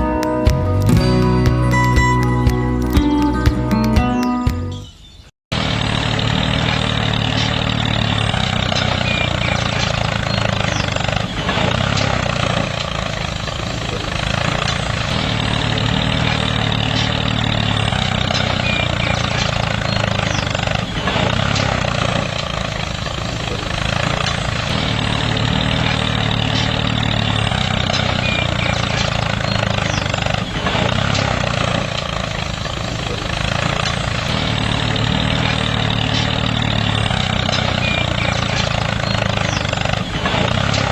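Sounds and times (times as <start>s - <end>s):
motor droning: 5.5s - 40.9s.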